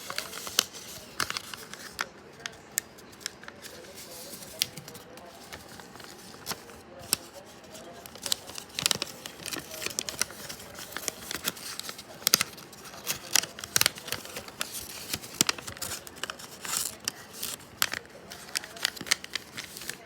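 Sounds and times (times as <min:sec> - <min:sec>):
paper crinkling and crackling: 0:00.0 - 0:20.0.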